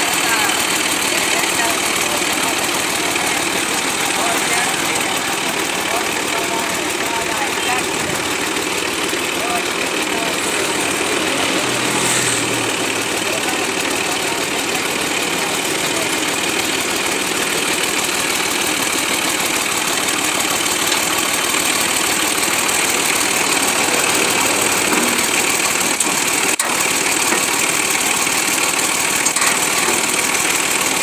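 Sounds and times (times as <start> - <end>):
tractor engine idling: 0.0 - 31.0.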